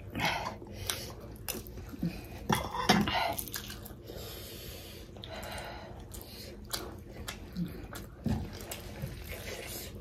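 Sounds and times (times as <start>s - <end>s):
slurping and chewing: 0.0s - 10.0s.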